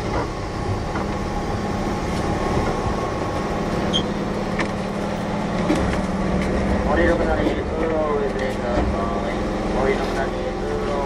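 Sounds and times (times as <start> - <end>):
train interior hum and rumble: 0.0 - 11.0.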